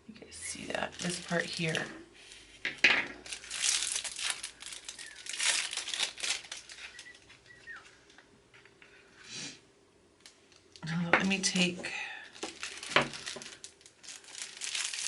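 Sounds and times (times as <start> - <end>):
plastic wrapping crinkling: 0.4 - 8.2, 10.2 - 15.0.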